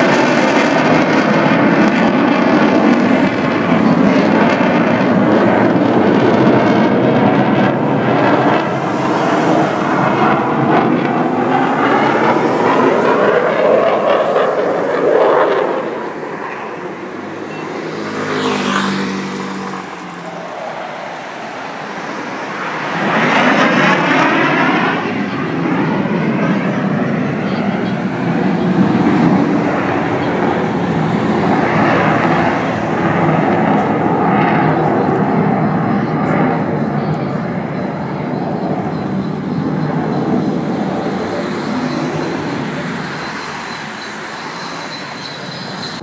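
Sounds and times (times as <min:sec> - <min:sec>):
fighter jet roaring overhead: 0:00.0 - 0:46.0.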